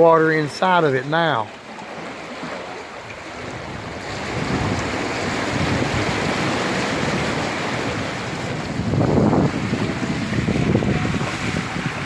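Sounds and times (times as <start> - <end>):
floodwater rushing around vehicle: 0.0 - 12.0
wind buffeting microphone: 1.9 - 12.0.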